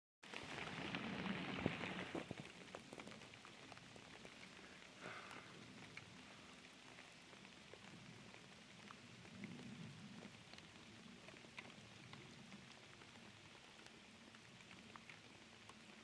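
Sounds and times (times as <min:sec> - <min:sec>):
rain pattering on pond: 0:00.2 - 0:16.0.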